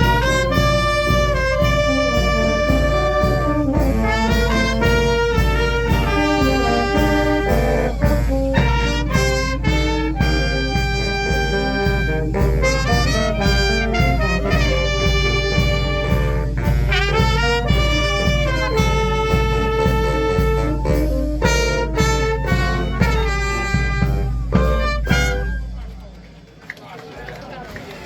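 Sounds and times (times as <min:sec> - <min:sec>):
brass band melody: 0:00.0 - 0:26.5
steady drum beat: 0:00.0 - 0:26.6.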